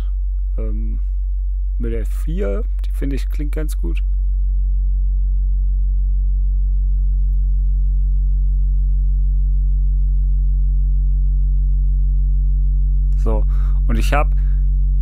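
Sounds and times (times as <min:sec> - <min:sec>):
low sine tone hum: 0:00.0 - 0:15.0.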